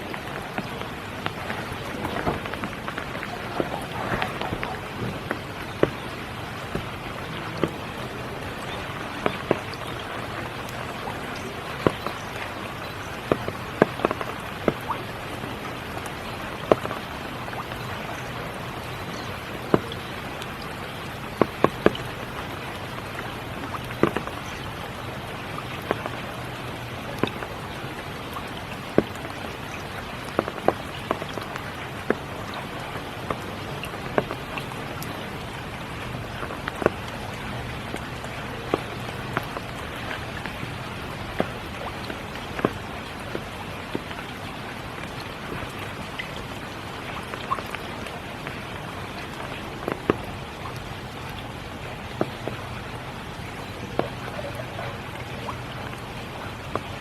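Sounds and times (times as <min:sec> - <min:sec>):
rain pattering: 0:00.0 - 0:57.0
single raindrops striking close: 0:00.0 - 0:57.0.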